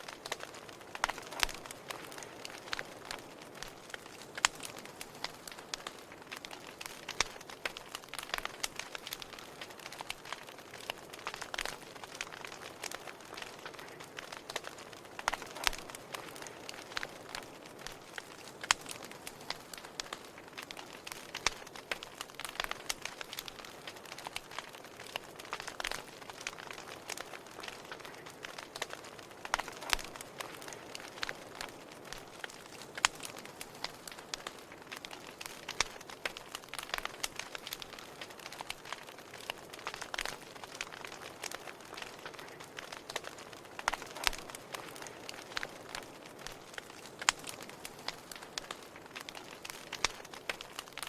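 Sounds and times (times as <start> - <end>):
firewood crackling and popping: 0.0 - 51.0
soft steady hiss: 0.0 - 51.0.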